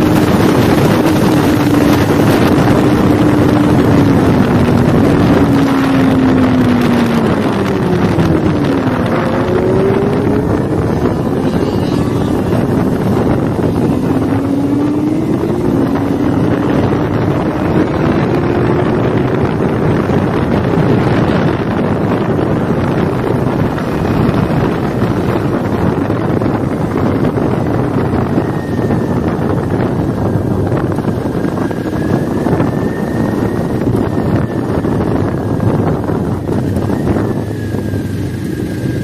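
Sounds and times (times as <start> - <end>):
motorcycle engine accelerating: 0.0 - 39.0
wind noise on microphone: 0.0 - 39.0.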